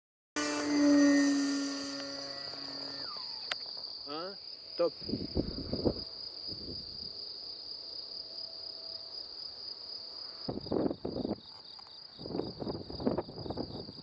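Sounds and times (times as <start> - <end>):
crickets chirring: 0.4 - 14.0.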